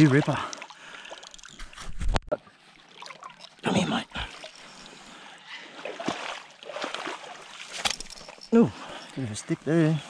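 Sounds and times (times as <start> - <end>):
river water sloshing and trickling: 0.0 - 9.9.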